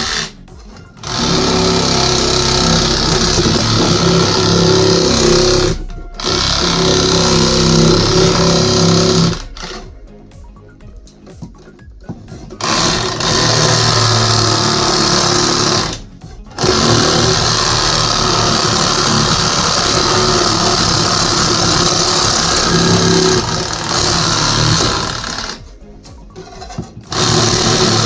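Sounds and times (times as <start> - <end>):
power tool running under load: 0.0 - 10.1, 12.0 - 28.0.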